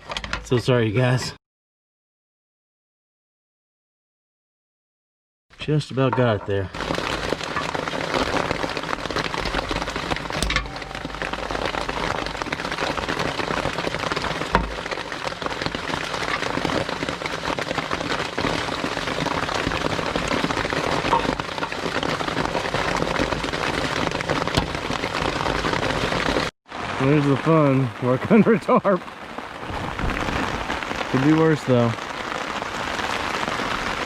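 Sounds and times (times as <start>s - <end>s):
heavy rain on a tarp: 6.6s - 34.0s.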